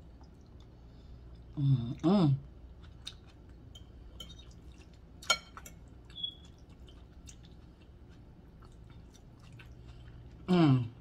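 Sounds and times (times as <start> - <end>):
chewing with wet mouth clicks: 0.1 - 2.1, 2.7 - 10.5.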